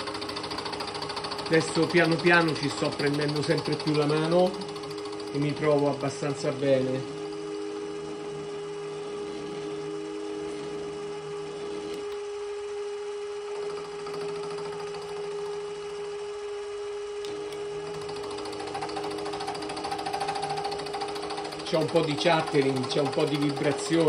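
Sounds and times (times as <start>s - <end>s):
cutter chatter and vibration: 0.0s - 24.0s
milling machine motor whine: 0.0s - 24.0s.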